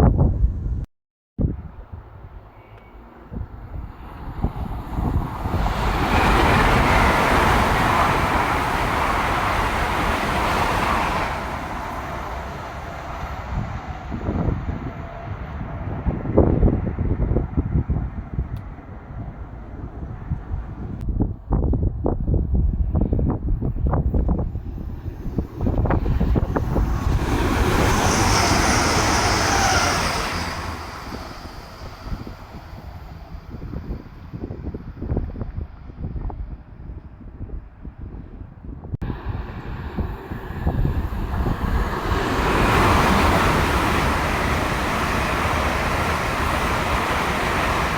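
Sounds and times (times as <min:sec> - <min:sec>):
wind buffeting microphone: 0:00.0 - 0:02.5, 0:03.2 - 0:47.9
train passing at speed: 0:01.6 - 0:21.0, 0:22.4 - 0:38.0, 0:39.0 - 0:47.9.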